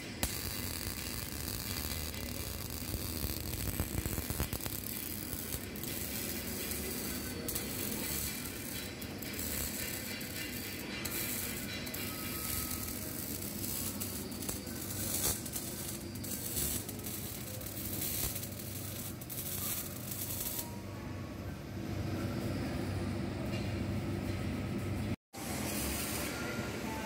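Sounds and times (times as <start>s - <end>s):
welding arc crackling hiss: 0.0s - 20.7s, 25.4s - 26.5s
low machine hum: 0.0s - 25.2s.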